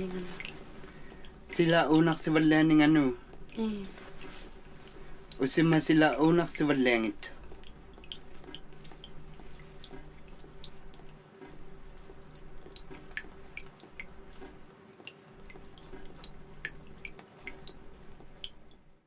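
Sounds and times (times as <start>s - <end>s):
steady low hum: 0.0s - 19.0s
water dripping: 0.0s - 19.0s.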